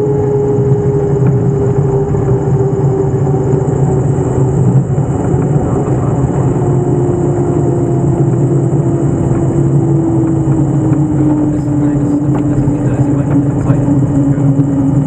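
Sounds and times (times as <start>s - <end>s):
aircraft engines and propellers: 0.0s - 15.0s.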